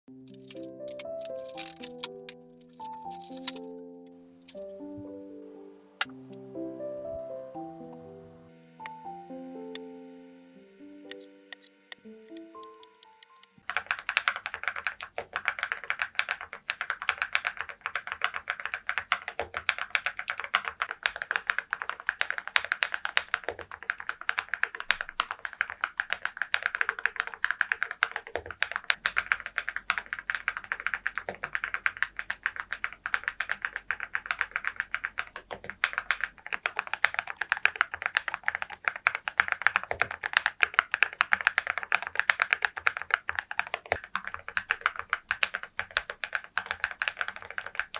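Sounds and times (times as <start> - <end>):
mechanical keyboard typing: 0.2 - 3.8, 4.4 - 4.8, 8.6 - 10.0, 10.7 - 47.9.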